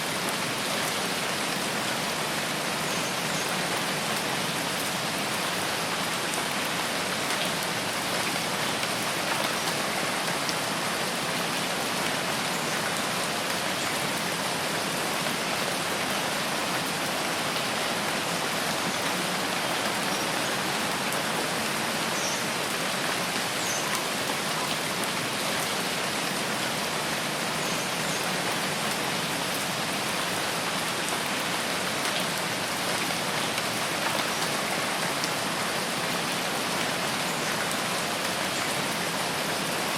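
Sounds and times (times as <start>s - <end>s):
rain on leaves and ground: 0.0s - 39.9s.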